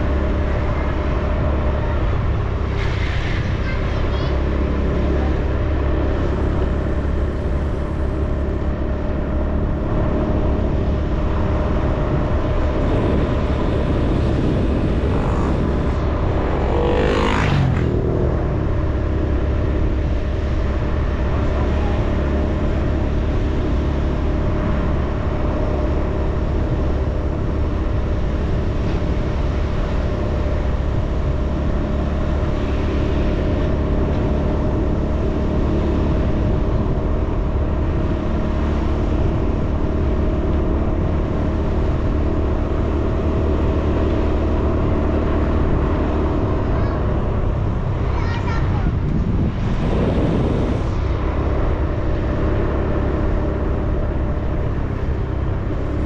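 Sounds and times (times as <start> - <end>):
vehicle engine running: 0.0 - 56.0
wind and road noise: 0.0 - 56.0.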